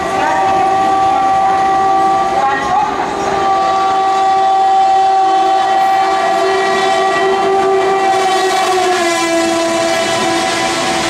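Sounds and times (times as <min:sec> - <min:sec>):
diesel locomotive horn blast: 0:00.0 - 0:11.0.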